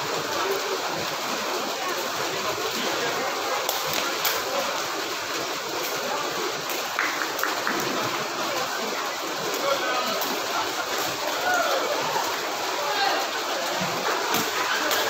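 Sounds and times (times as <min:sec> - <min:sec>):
sports hall ambience: 0:00.0 - 0:15.0.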